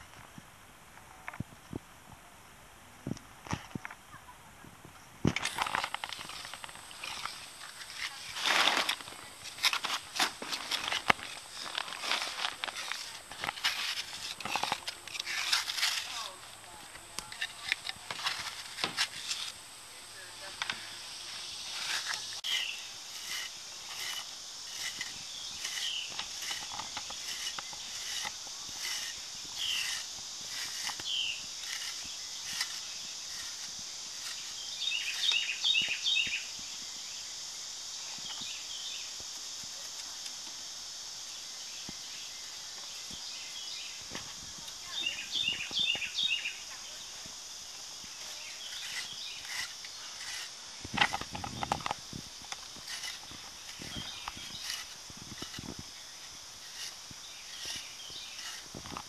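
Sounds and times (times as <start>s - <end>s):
high-pitched insect drone: 10.7s - 59.0s.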